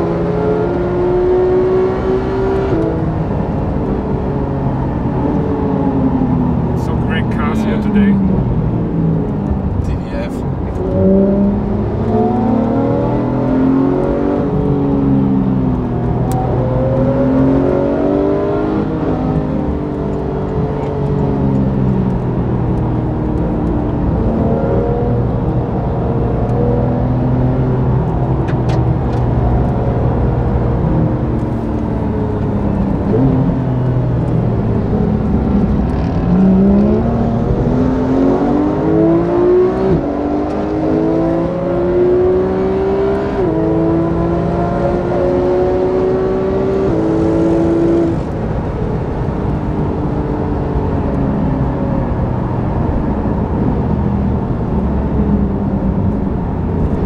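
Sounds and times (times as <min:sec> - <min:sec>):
car engine revving in cabin: 0:00.0 - 0:57.0.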